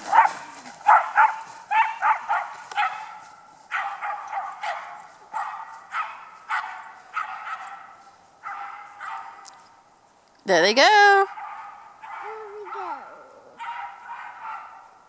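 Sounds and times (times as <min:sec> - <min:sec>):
small dog barking: 0:00.1 - 0:09.5, 0:11.3 - 0:15.0.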